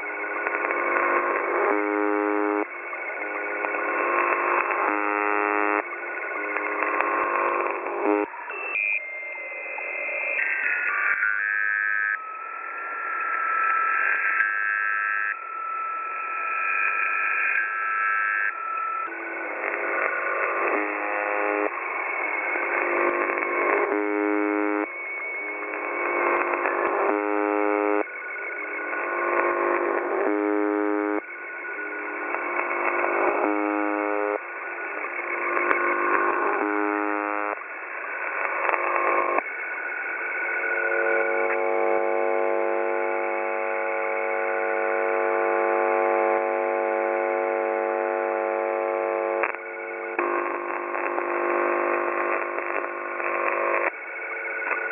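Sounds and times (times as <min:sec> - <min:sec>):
siren-like radio cycle: 0:00.0 - 0:54.9
steady radio tone: 0:00.0 - 0:54.9
tinny radio electronic tones: 0:00.0 - 0:54.9.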